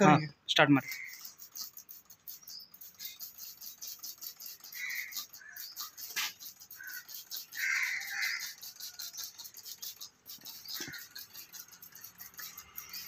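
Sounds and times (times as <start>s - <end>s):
spray bottle squirting hiss: 0.9s - 13.0s.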